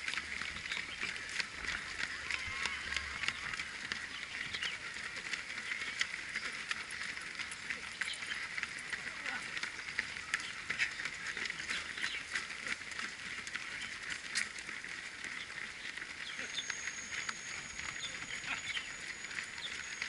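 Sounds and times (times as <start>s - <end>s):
running shoes slapping on asphalt: 0.0s - 20.0s.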